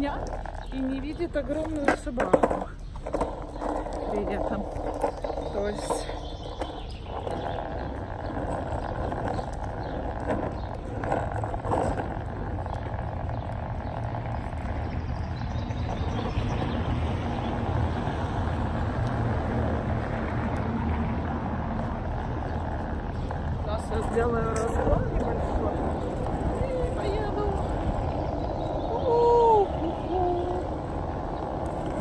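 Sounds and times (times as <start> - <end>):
small wheels rolling on asphalt: 0.0 - 32.0.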